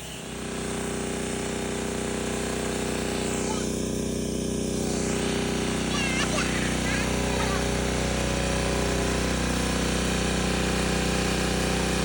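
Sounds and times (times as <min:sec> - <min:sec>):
small gasoline engine revving: 0:00.0 - 0:12.0.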